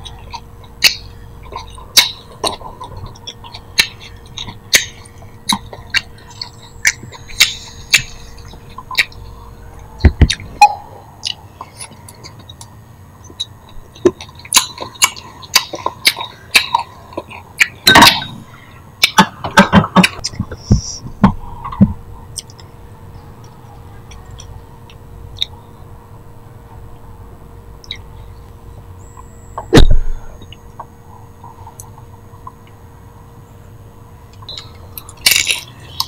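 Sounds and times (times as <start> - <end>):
chewing and mouth noises: 0.0 - 22.7, 23.3 - 25.7, 29.2 - 32.8, 34.3 - 36.0.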